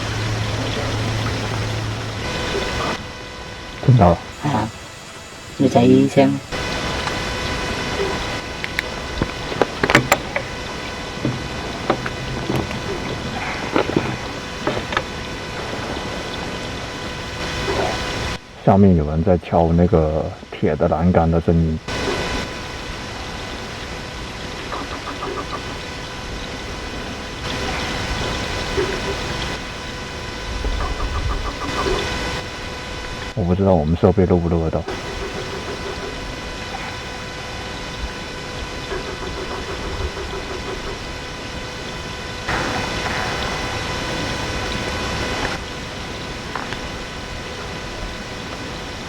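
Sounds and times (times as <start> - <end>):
steady recording hiss: 0.0 - 49.0
thin whine: 0.0 - 49.0.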